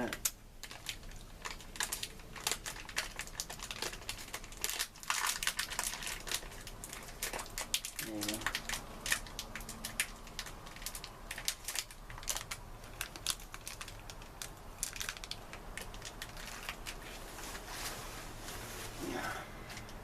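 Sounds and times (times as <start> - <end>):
snack crunching and crinkling: 0.0 - 17.7.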